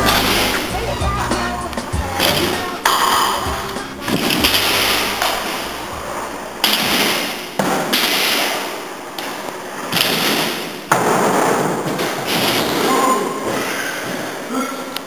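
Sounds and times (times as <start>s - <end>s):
scooter wheels rolling on concrete: 0.0s - 14.4s.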